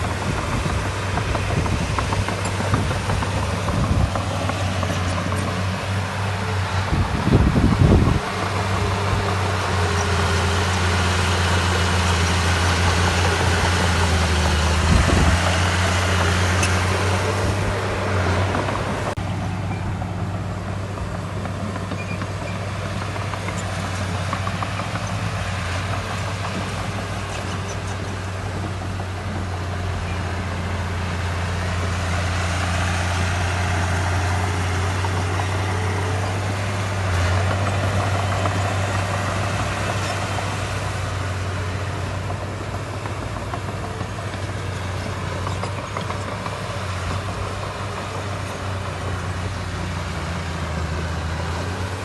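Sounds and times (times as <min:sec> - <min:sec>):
diesel engine running: 0:00.0 - 0:52.0
higher engine clatter: 0:00.0 - 0:52.0.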